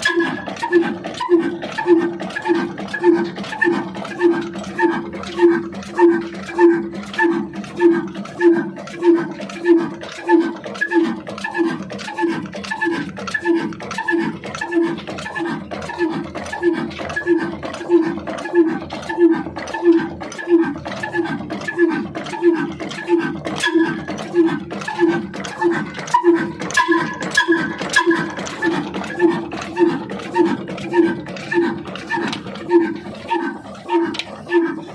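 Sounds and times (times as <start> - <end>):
engine chugging slowly: 0.0 - 34.9.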